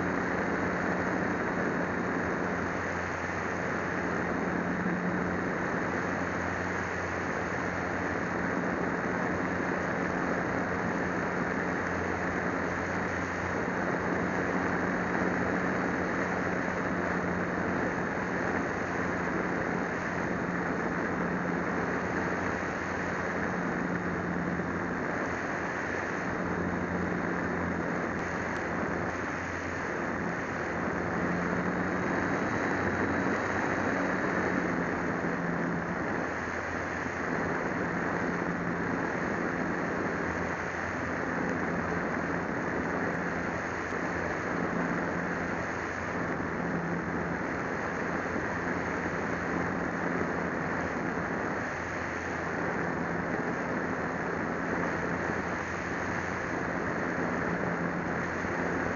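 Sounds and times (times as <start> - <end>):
model plane motor drone: 0.0 - 58.9
rushing wind noise: 0.0 - 58.9.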